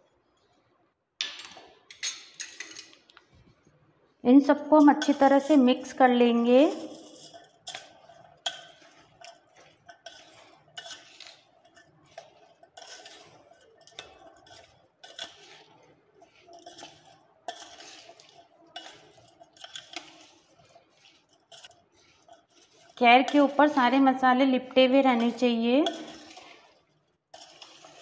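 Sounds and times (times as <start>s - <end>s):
metal spoon scraping and clinking bowl: 1.4s - 3.0s, 4.5s - 28.0s.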